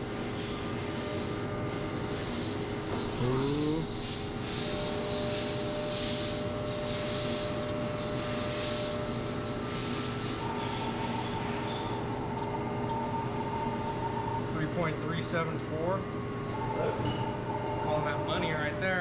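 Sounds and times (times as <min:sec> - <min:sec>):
machine-shop equipment hum: 0:00.0 - 0:19.0.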